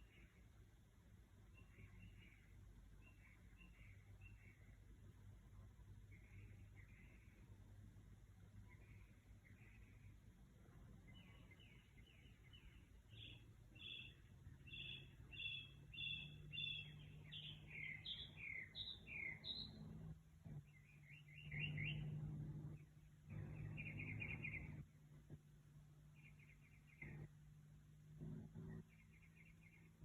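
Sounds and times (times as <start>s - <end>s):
bird singing: 0.0s - 30.0s
low steady hum: 0.0s - 30.0s.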